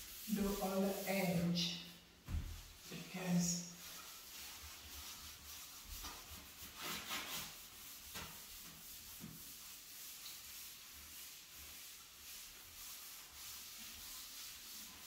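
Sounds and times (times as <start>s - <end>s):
scrubbing on glass: 0.0s - 15.0s.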